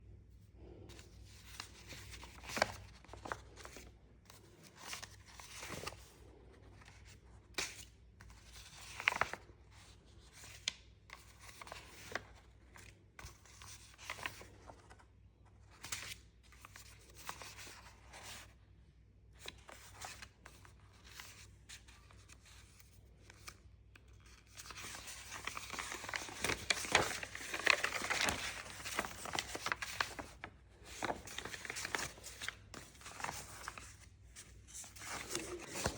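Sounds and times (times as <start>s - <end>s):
paper rustling and crinkling: 0.7s - 18.6s, 19.4s - 35.9s.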